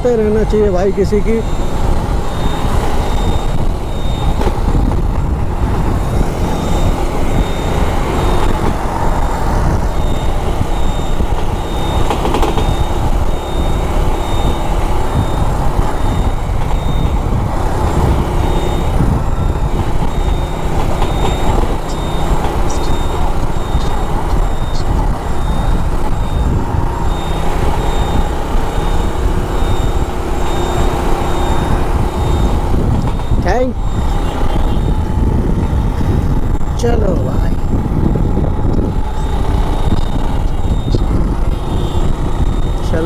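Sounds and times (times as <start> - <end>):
high-pitched beeps: 0.0 - 43.0
motorcycle engine and road noise: 0.0 - 43.0.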